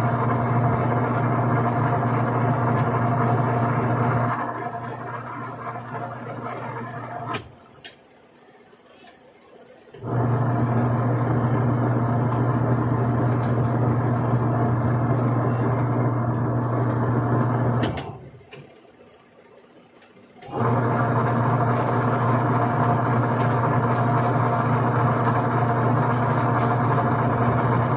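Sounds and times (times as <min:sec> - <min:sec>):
washing machine motor humming: 0:00.0 - 0:08.6, 0:09.8 - 0:19.4, 0:20.3 - 0:27.9.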